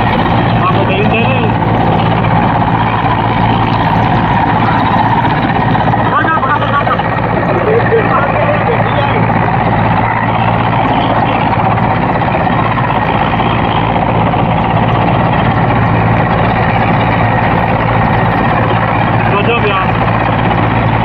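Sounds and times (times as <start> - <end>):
helicopter rotor beating: 0.0 - 21.0
helicopter turbine rush: 0.0 - 21.0.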